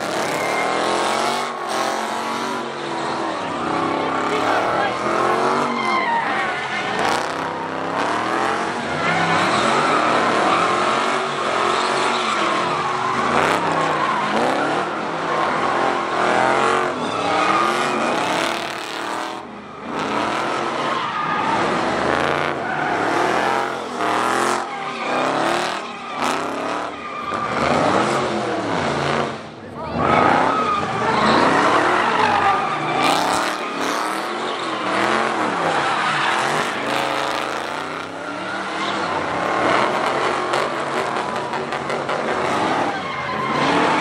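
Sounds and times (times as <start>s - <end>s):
car engine revving: 0.0s - 44.0s
tires squealing on asphalt: 0.0s - 44.0s.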